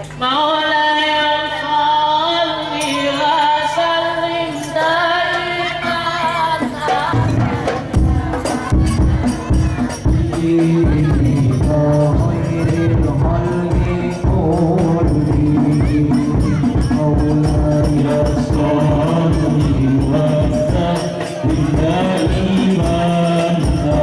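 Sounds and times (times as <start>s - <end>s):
group of voices singing: 0.0s - 24.0s
man singing devotional chant: 0.1s - 24.0s
frame drums playing rhythm: 4.5s - 24.0s.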